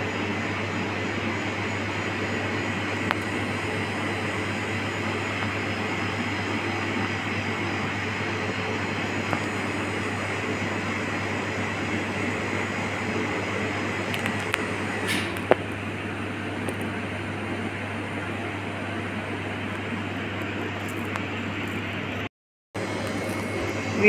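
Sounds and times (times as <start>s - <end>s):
machine humming and rushing: 0.0s - 22.2s, 22.8s - 24.0s.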